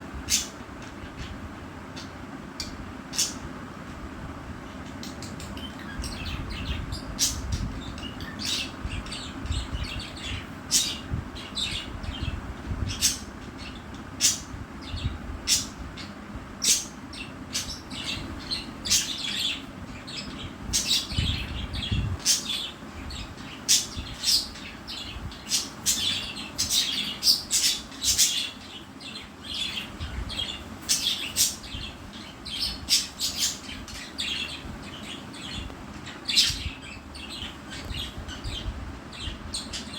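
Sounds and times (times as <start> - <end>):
budgerigars chirping and squawking: 0.3 - 1.4, 2.0 - 3.5, 4.7 - 39.9.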